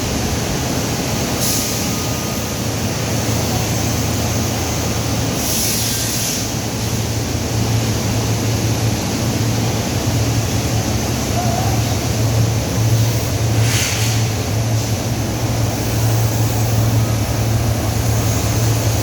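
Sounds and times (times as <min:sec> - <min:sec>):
factory machinery humming: 0:00.0 - 0:19.0.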